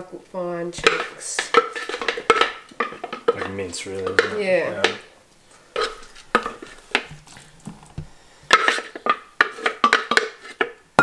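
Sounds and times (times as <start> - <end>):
wooden spoon scraping plastic bowl: 0.8 - 10.8.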